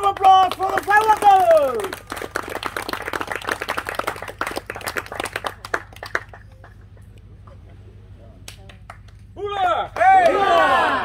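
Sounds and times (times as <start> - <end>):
small crowd clapping: 0.0 - 7.4, 8.4 - 11.0.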